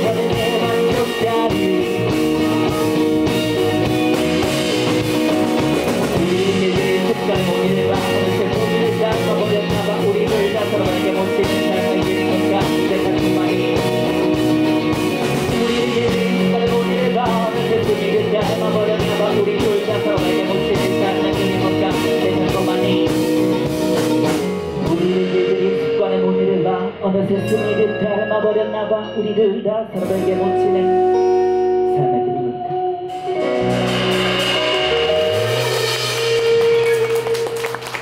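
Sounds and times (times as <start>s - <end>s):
person singing: 0.0s - 23.8s, 24.8s - 38.0s
live rock band playing: 0.0s - 29.2s, 29.9s - 38.0s.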